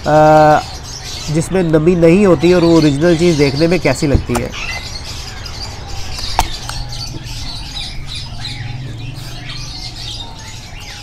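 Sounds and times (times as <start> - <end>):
small birds chirping and squawking: 0.0 - 11.0.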